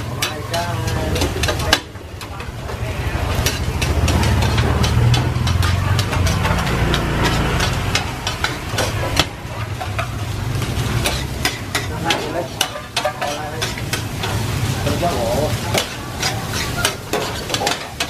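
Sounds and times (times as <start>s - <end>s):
rice sizzling: 0.0s - 18.0s
spatula scraping pan: 0.0s - 18.0s.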